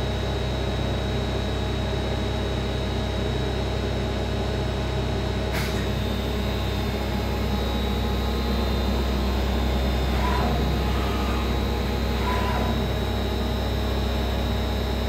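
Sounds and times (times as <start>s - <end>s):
milling machine hum with high whine: 0.0s - 15.0s.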